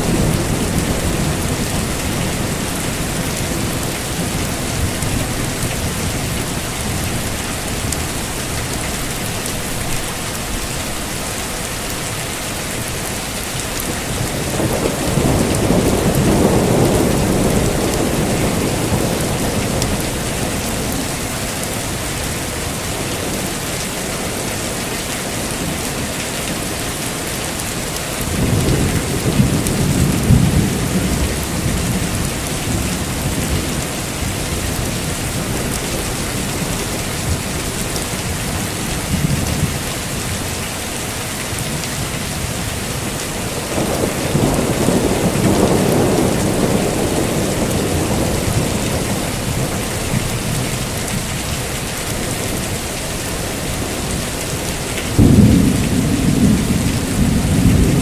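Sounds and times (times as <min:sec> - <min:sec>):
thunder rumbling: 0:00.0 - 0:10.8, 0:13.8 - 0:21.8, 0:28.2 - 0:40.5, 0:41.5 - 0:58.0
heavy rain falling: 0:00.0 - 0:58.0.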